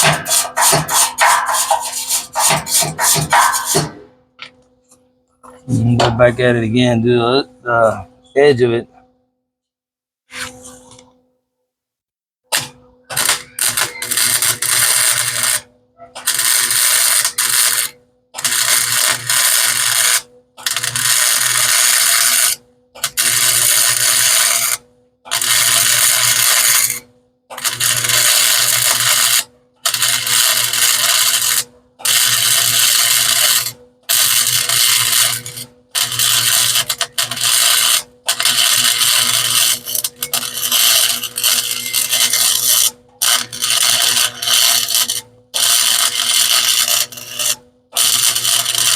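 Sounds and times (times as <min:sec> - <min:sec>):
welder arc crackling: 0:00.0 - 0:04.0, 0:12.5 - 0:27.0, 0:27.6 - 0:48.9.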